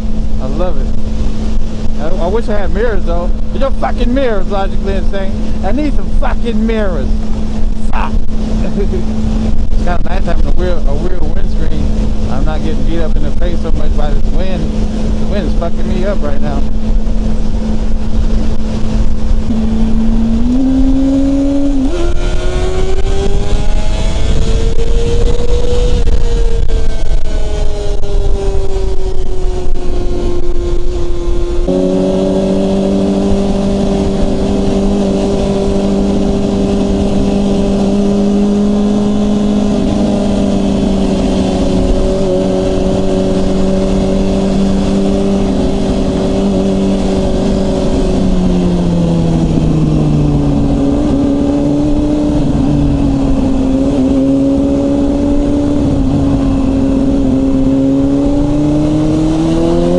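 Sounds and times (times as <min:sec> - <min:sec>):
motorcycle engine droning: 0:00.0 - 0:59.9
wind buffeting microphone: 0:00.0 - 0:59.9.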